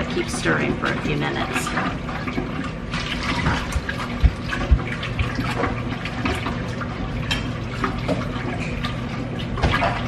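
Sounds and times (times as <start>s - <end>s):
liquid sloshing in a pot: 0.0s - 10.0s.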